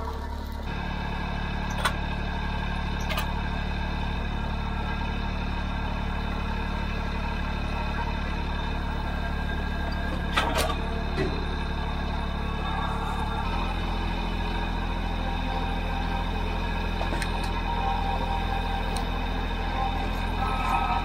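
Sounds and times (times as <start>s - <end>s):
diesel tractor engine idling: 0.0s - 21.0s.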